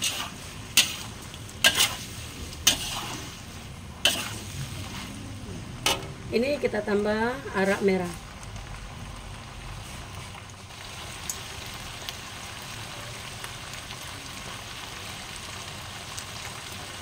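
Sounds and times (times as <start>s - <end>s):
food frying in a wok: 0.0s - 17.0s.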